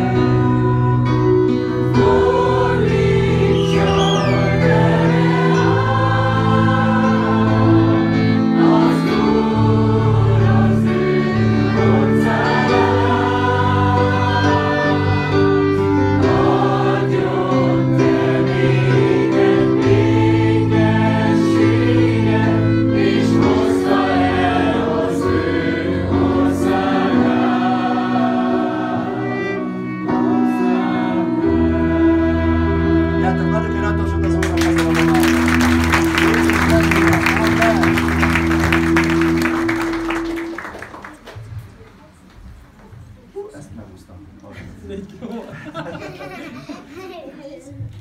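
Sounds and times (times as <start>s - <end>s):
congregation singing: 0.0s - 41.7s.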